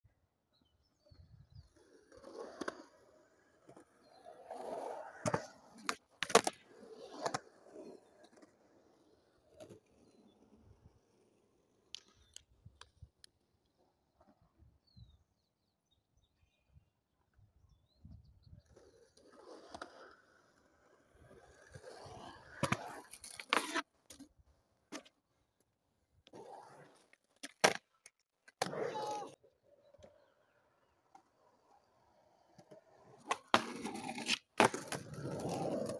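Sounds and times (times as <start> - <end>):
skateboard wheels rolling on concrete: 0.1 - 35.9.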